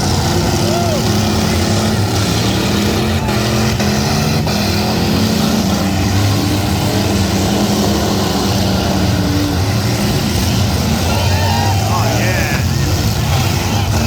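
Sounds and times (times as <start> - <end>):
car engines droning: 0.0 - 14.0.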